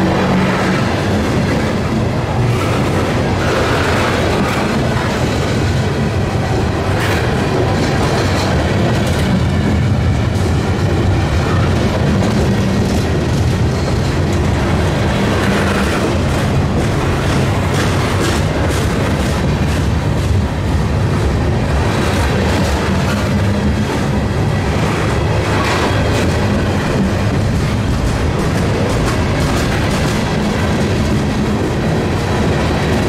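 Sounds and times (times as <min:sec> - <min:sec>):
freight train rumbling by: 0:00.0 - 0:33.0
wheels clicking over rail joints: 0:00.0 - 0:33.0.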